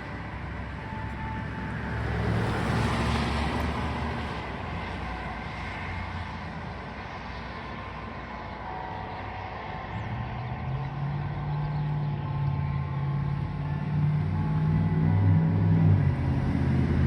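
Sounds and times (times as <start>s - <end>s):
vehicle passing by: 0.0s - 6.6s, 8.5s - 17.0s.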